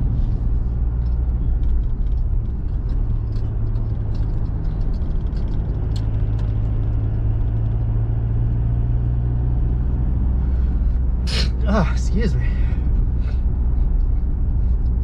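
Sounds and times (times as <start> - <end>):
truck engine and road hum: 0.0 - 15.0.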